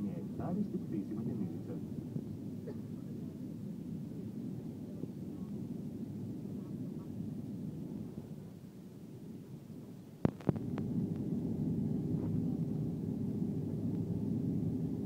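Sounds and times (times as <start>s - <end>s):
airplane cabin hum: 0.0s - 15.0s.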